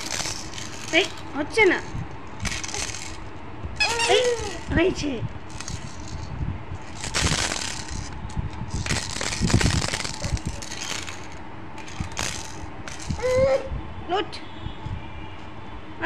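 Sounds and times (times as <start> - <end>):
plastic toys rattling: 0.0 - 13.4.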